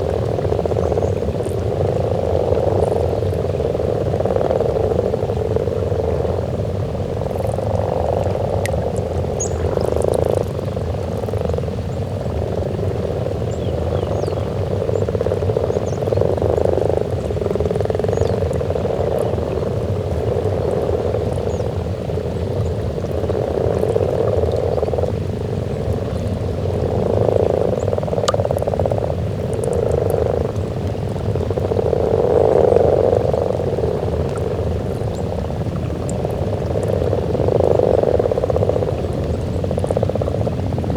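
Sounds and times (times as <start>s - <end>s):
frogs croaking: 0.0s - 40.9s
steady low rumble: 0.0s - 40.9s.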